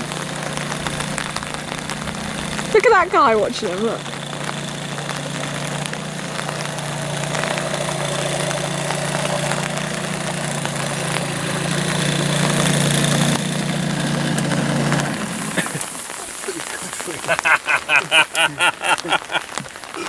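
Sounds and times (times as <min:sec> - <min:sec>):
small outboard motor running: 0:00.0 - 0:16.5.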